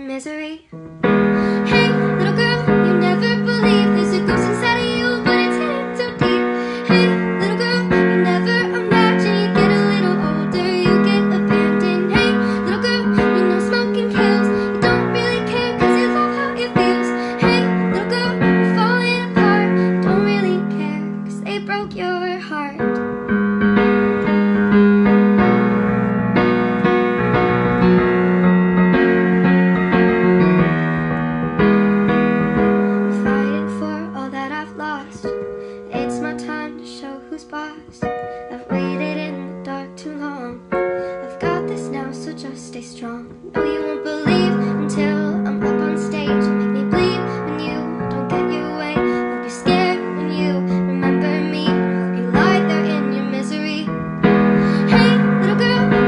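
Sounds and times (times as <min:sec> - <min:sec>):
high female singing: 0:00.0 - 0:23.0, 0:33.0 - 0:56.0
piano: 0:00.0 - 0:56.0.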